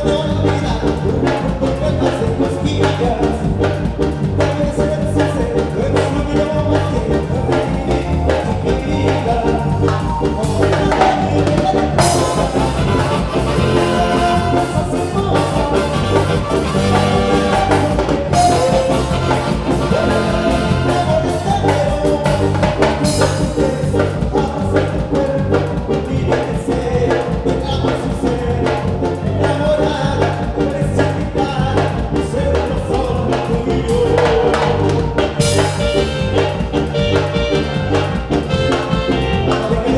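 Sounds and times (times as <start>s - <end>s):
drum kit beat: 0.0s - 39.9s
latin dance band playing: 0.0s - 39.9s
person singing: 0.0s - 39.9s.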